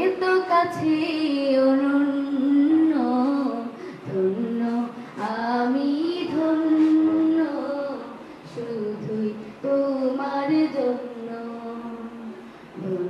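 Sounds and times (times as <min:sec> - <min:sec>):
woman singing into a microphone: 0:00.0 - 0:13.0.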